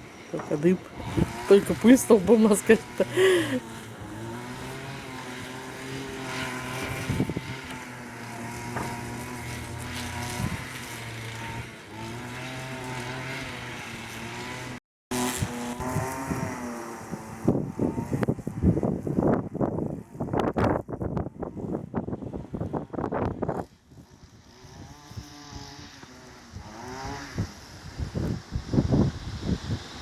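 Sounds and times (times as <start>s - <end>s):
motor mower engine running: 0.0s - 30.0s.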